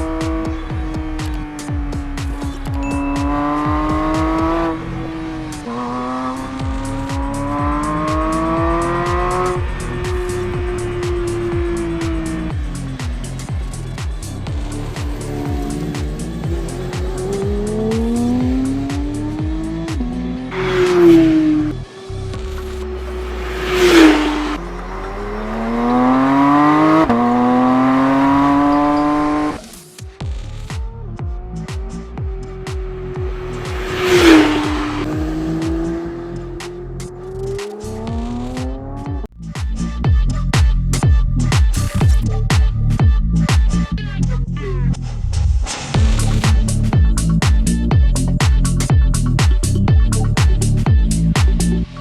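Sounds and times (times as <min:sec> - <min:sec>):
car engine accelerating: 0:00.0 - 0:44.0, 0:44.6 - 0:52.0
music bass beat: 0:00.0 - 0:52.0.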